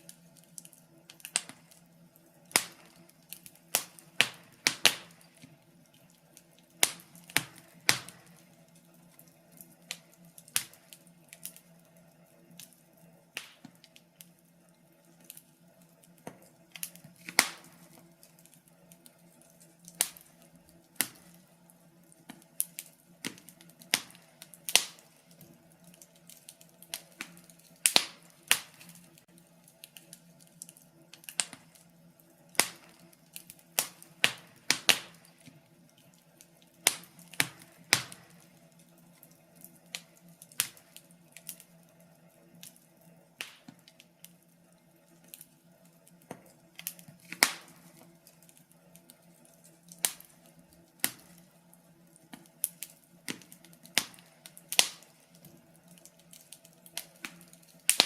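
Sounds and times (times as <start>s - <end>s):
firewood crackling: 0.0s - 58.0s.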